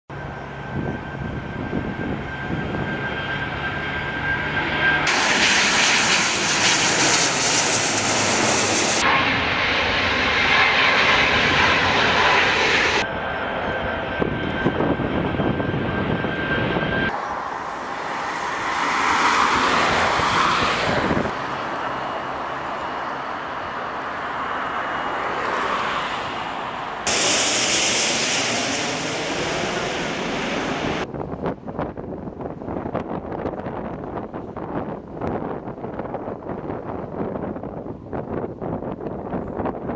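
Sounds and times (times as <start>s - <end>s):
jet engines at takeoff power: 0.1s - 39.9s.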